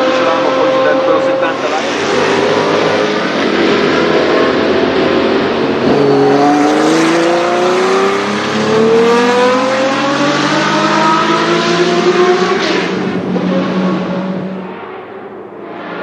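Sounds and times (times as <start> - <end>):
racing car engine accelerating: 0.0 - 16.0.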